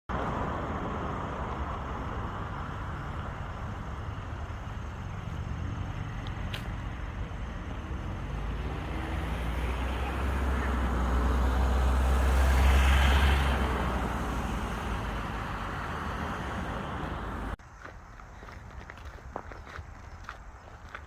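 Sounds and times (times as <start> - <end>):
vehicle passing with tyre hiss: 0.1 - 17.6.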